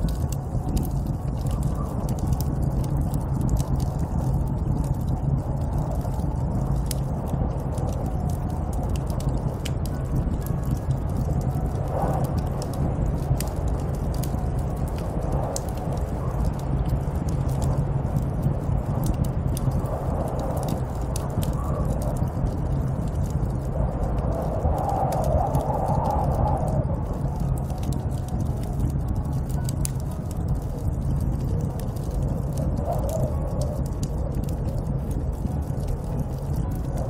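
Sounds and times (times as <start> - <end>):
light ticks and crackles: 0.0 - 37.0
snowstorm wind blowing: 0.0 - 37.0.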